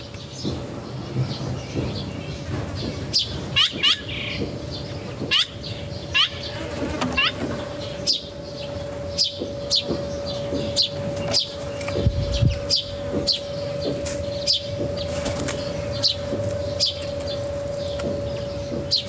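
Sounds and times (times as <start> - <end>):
small birds chirping: 0.0 - 19.0
steady hum: 0.0 - 19.0.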